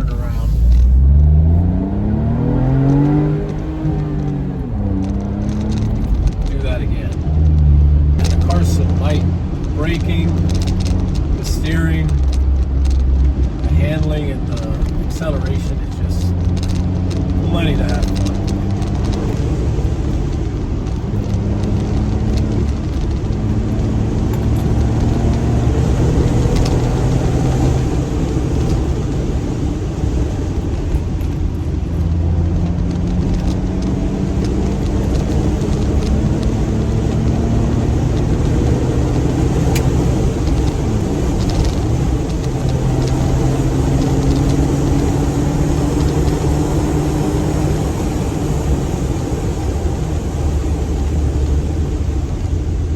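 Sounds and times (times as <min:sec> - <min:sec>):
car engine accelerating: 0:00.0 - 0:52.9
tyre and road noise: 0:00.0 - 0:52.9.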